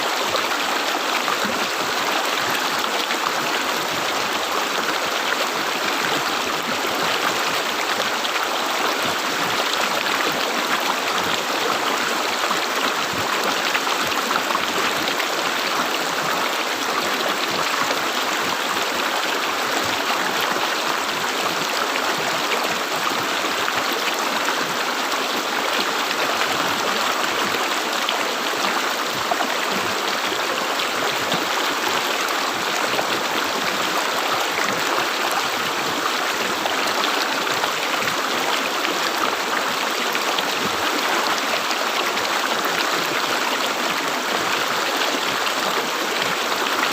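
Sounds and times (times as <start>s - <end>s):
river water gurgling and rushing: 0.0s - 46.9s.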